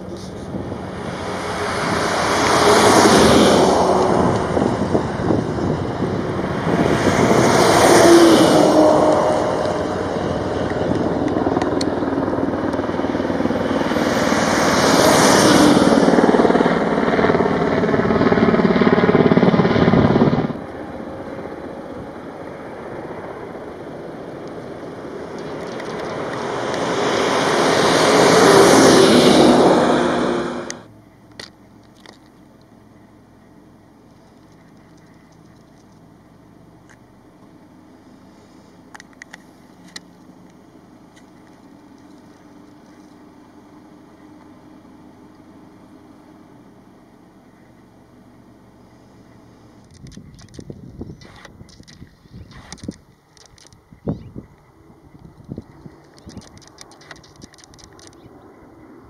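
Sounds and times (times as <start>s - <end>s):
fire engines driving past: 0.0s - 52.0s, 54.6s - 59.0s.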